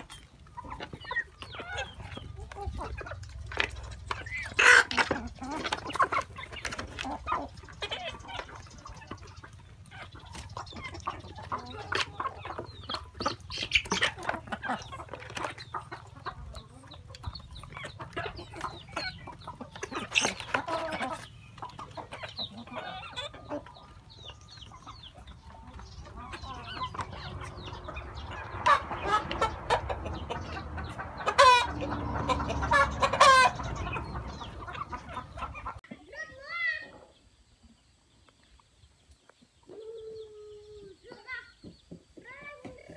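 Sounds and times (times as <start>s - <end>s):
loud chicken calls: 0.0s - 35.8s
hens clucking: 0.0s - 42.9s.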